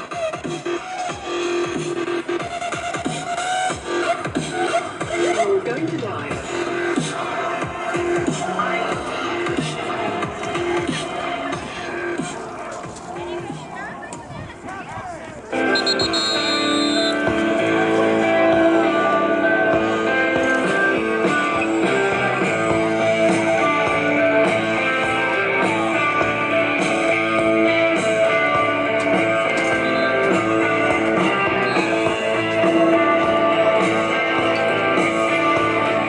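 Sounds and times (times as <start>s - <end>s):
loud music with steady beat: 0.0s - 13.8s, 15.6s - 36.0s.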